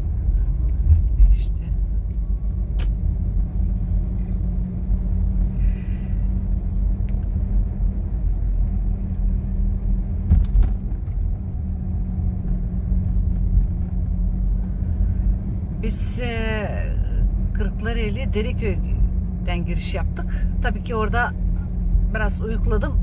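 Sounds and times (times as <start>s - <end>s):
car road rumble from inside: 0.0s - 23.0s.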